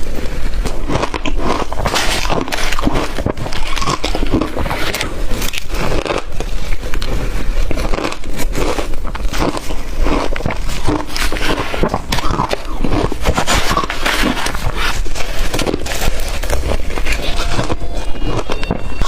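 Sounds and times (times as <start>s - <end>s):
chewing crushed ice: 0.6s - 19.0s.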